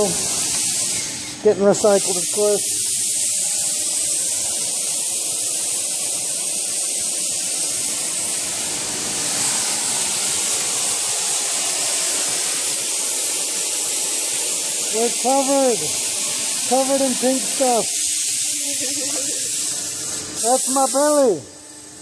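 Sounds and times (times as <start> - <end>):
router cutting foam hiss: 0.0 - 22.0.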